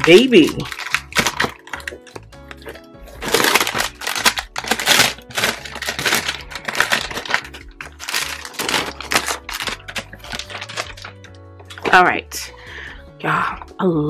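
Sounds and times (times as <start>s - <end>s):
plastic sleeve crinkling: 0.0s - 11.9s.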